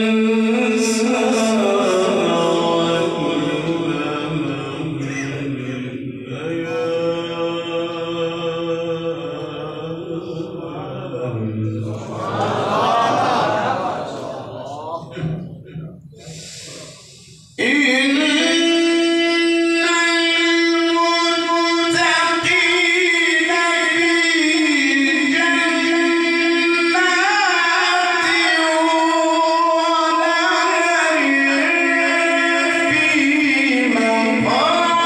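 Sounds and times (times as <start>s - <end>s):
man chanting melodically: 0.0s - 13.0s, 14.2s - 35.0s.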